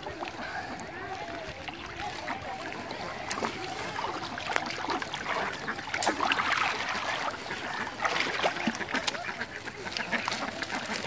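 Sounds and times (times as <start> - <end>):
water draining off net: 0.0 - 11.0
water splashing and trickling: 0.0 - 11.0.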